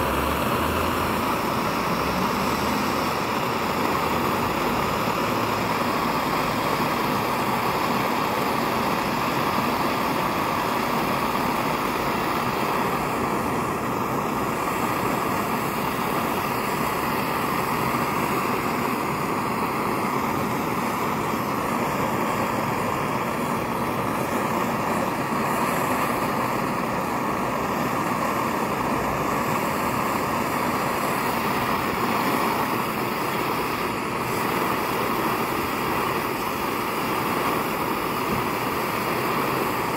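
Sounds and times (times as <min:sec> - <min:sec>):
pressure stove burner rushing: 0:00.0 - 0:39.9.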